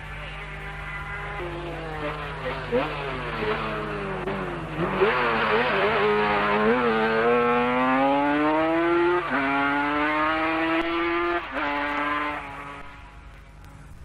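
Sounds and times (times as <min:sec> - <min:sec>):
engine accelerating with gear changes: 0:00.0 - 0:14.0.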